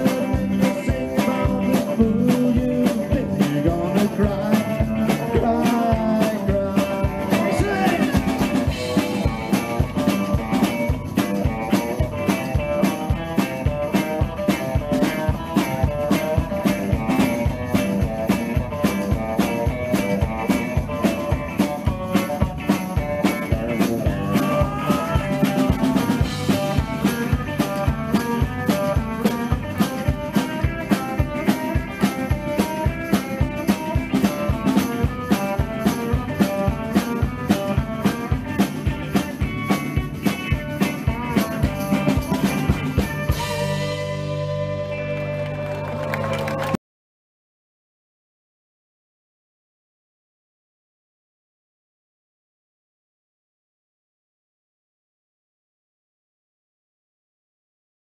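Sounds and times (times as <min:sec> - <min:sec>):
drum kit: 0:00.0 - 0:46.8
electric guitars: 0:00.0 - 0:46.8
upright double bass: 0:00.0 - 0:46.8.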